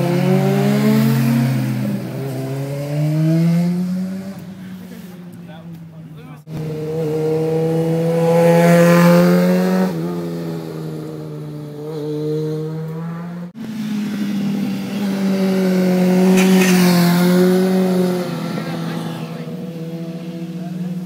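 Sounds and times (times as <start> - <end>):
motorcycle engines at high revs: 0.0 - 5.0, 5.8 - 21.0.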